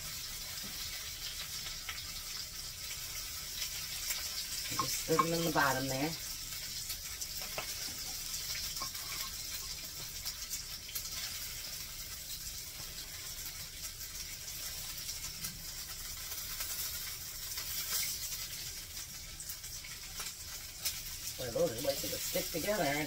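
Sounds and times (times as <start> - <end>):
patties sizzling in a skillet: 0.0 - 23.0.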